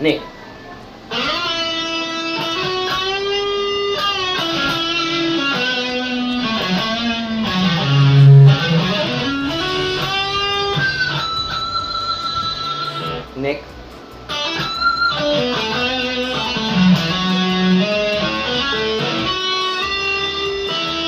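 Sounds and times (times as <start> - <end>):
electric guitar lead line: 0.9 - 21.0.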